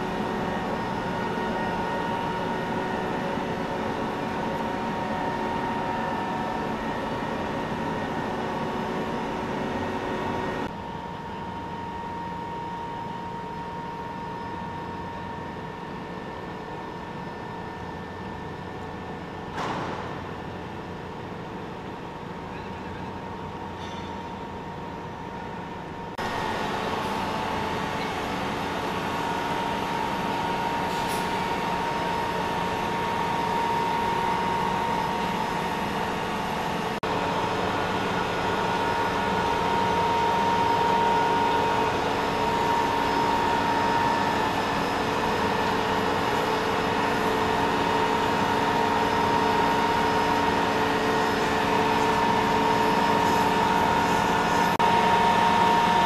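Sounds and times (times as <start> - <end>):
heavy machinery droning: 0.0 - 56.0
machinery whine: 0.0 - 56.0.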